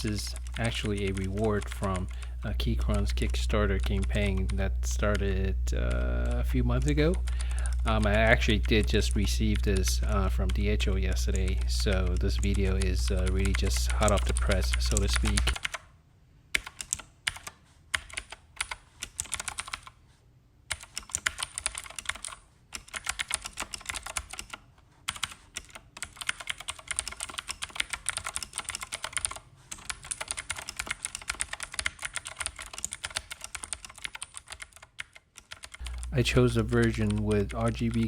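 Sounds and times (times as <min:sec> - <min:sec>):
mechanical keyboard clicks: 0:00.0 - 0:05.2, 0:05.8 - 0:15.8, 0:16.6 - 0:19.9, 0:20.7 - 0:38.0.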